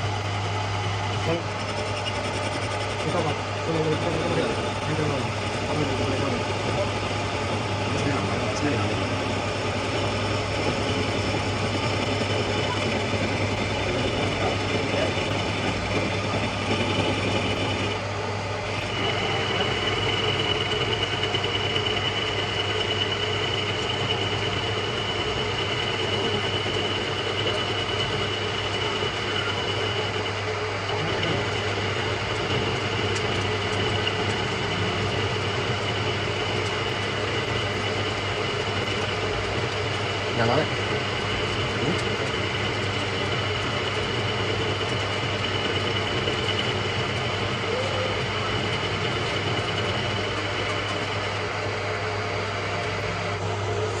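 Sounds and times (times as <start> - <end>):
metal lathe running: 0.0 - 54.0
high squeal of cutting tool: 1.1 - 18.0, 18.7 - 51.4.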